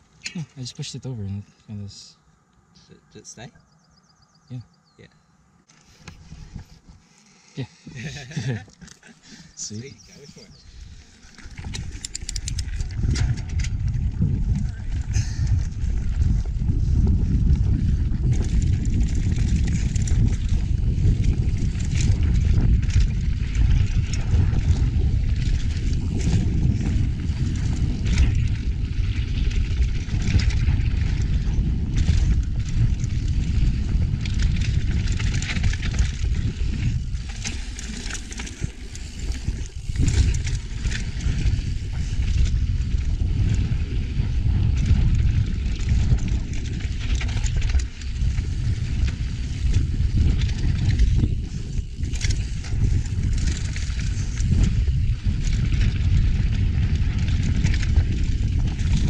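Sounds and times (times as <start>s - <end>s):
wind on microphone: 5.7s - 59.0s
bike chattering over bumps: 7.9s - 59.0s.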